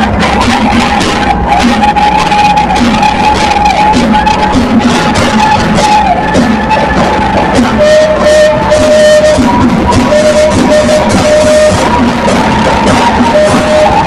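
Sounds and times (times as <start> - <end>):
drums and cymbals: 0.0 - 14.0.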